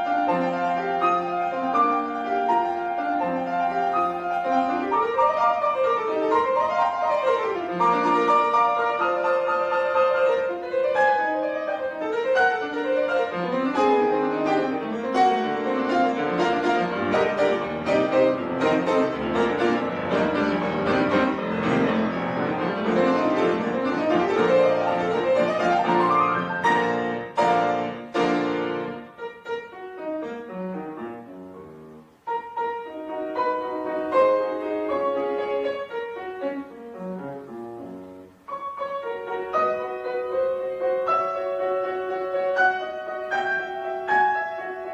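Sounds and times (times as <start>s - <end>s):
classical piano piece: 0.0s - 44.9s.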